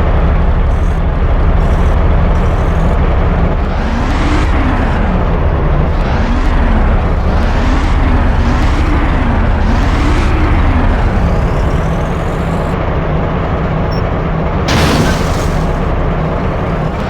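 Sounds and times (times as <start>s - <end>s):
heavy low rumble: 0.0s - 13.9s
motor vehicle running: 0.0s - 17.0s.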